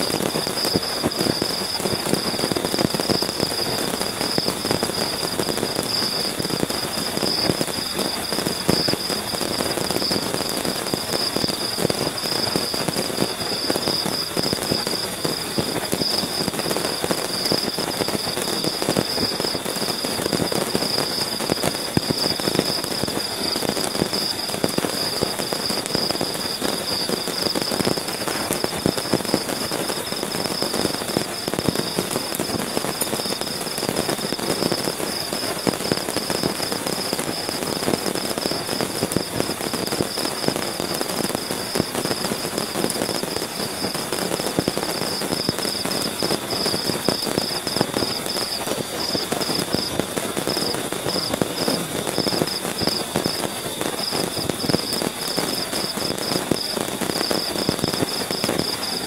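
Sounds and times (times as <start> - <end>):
heavy rain on tent fly: 0.0 - 59.0.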